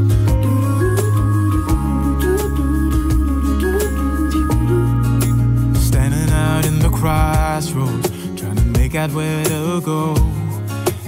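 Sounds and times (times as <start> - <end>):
pop song with steady beat: 0.0 - 11.0.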